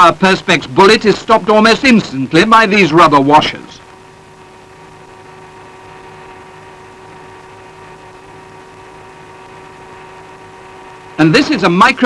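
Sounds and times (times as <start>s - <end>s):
electrical hum: 0.0s - 12.0s
faint hiss: 0.0s - 12.0s.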